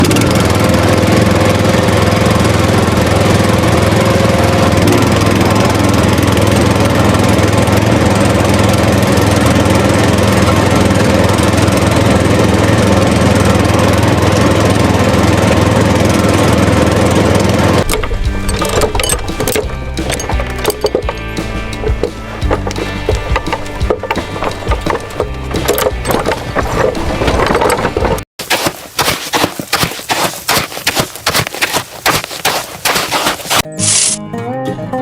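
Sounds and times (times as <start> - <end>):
motor running loudly: 0.0 - 34.2.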